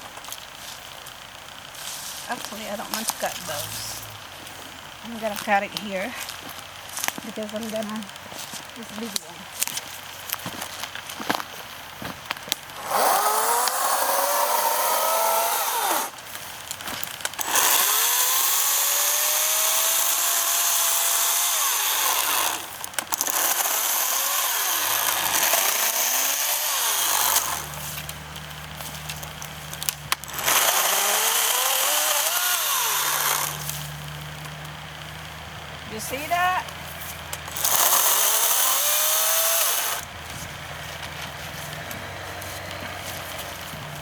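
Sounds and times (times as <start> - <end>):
low steady hum: 0.0 - 18.1, 24.4 - 44.0
battery chainsaw cutting branch: 0.0 - 44.0.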